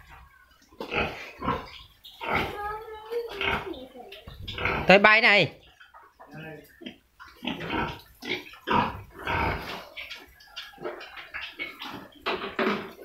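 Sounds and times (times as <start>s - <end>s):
pigs grunting: 0.8s - 5.2s, 6.3s - 13.0s.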